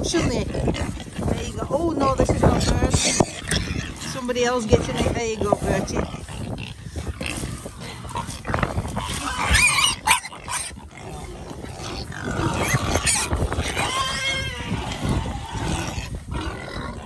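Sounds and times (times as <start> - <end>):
pigs grunting and squealing: 0.0 - 17.0.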